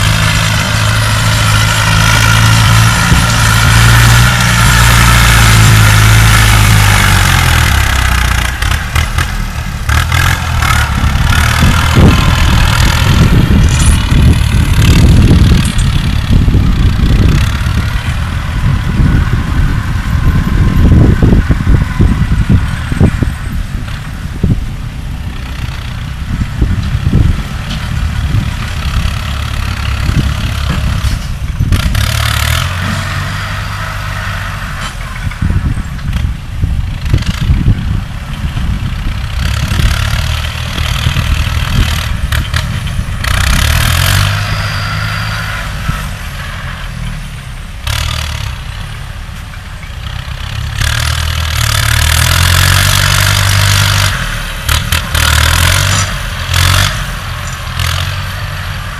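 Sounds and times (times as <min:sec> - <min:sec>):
diesel engine rumbling: 0:00.0 - 0:58.9.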